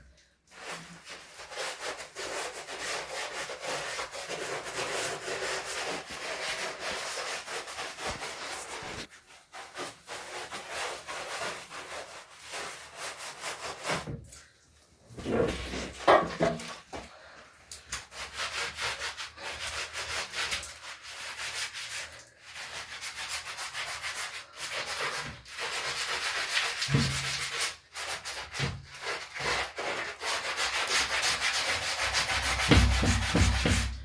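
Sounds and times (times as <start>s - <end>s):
cloth scrubbing a surface: 0.5s - 14.1s, 18.0s - 34.0s.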